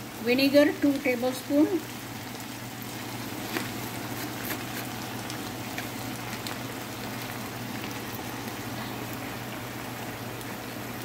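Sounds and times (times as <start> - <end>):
food sizzling in a frying pan: 0.0 - 11.0
crackles and pops: 1.8 - 11.0.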